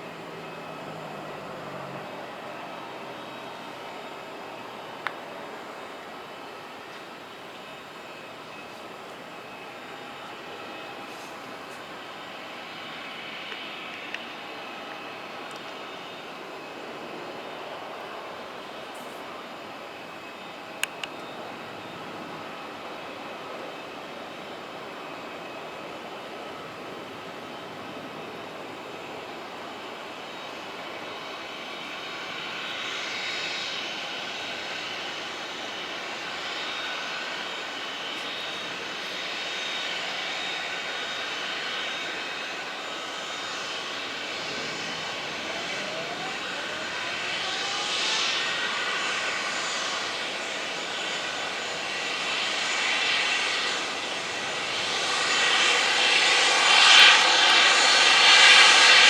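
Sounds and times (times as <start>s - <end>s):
airliner engines whining: 0.0s - 59.0s.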